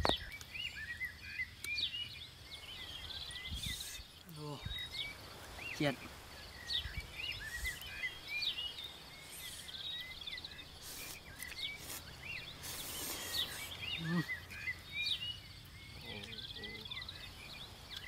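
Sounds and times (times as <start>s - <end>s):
birds chirping: 0.0s - 18.0s
faint insect buzz: 0.0s - 18.0s.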